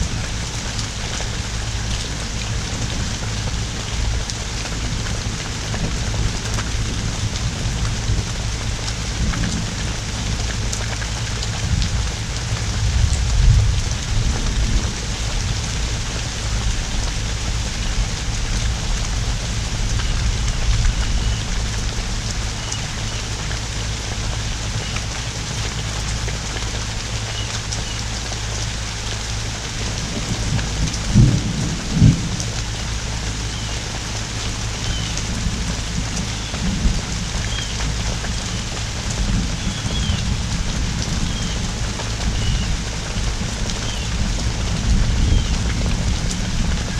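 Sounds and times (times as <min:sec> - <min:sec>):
low rumble of thunder: 0:00.0 - 0:26.3, 0:29.7 - 0:33.8, 0:34.4 - 0:46.9
heavy rain pouring: 0:00.0 - 0:46.9.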